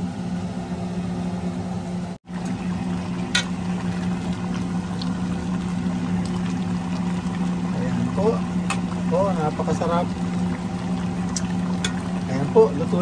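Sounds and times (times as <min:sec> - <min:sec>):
steady low hum: 0:00.0 - 0:13.0
curry bubbling in a pot: 0:02.3 - 0:13.0.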